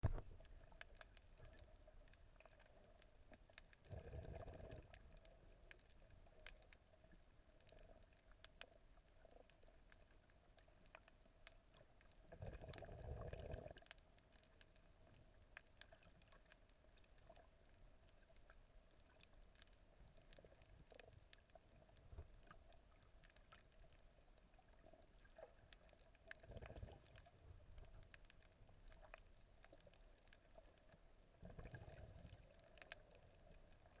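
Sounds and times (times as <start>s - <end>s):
faint underwater clicks: 0.0s - 34.0s.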